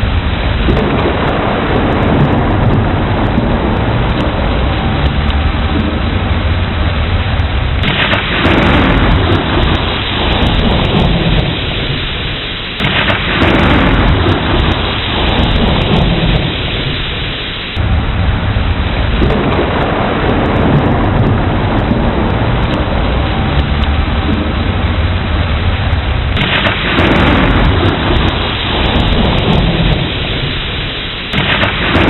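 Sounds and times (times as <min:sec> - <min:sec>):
heavy rain: 0:00.0 - 0:32.0
rolling thunder: 0:00.0 - 0:32.0.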